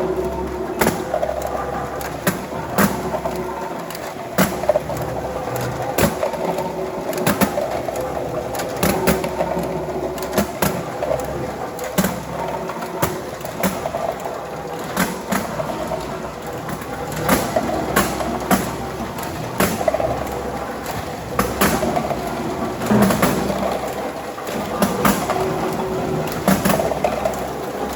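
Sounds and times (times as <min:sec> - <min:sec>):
conveyor machine humming: 0:00.0 - 0:27.9.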